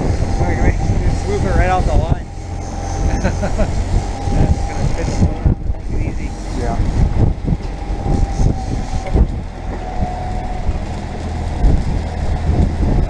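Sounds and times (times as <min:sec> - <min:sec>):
boat motor running: 0:00.0 - 0:13.0
wind buffeting microphone: 0:00.0 - 0:13.0.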